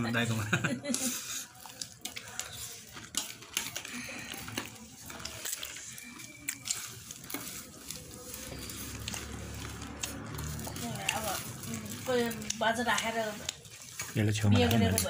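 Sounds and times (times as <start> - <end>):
light crackly rustle: 0.9 - 15.0.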